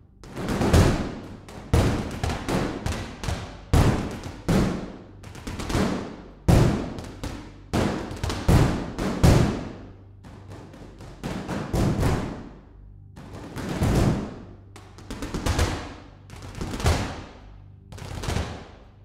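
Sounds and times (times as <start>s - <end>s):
deep percussive thuds: 0.2s - 18.8s.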